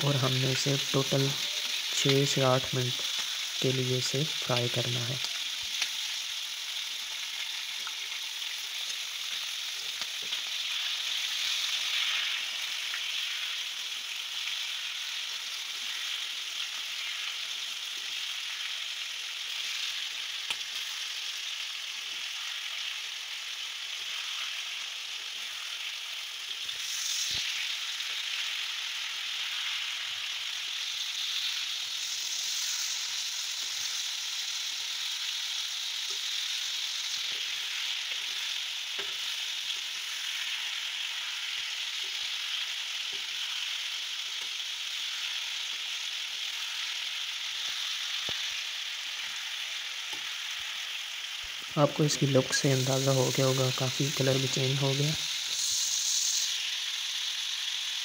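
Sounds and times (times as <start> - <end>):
liver sizzling in ghee: 0.0 - 58.0.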